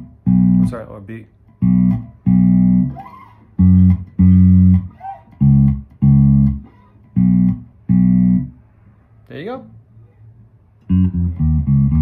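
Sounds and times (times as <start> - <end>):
fingerpicked electric bass: 0.0 - 8.6, 10.6 - 12.0.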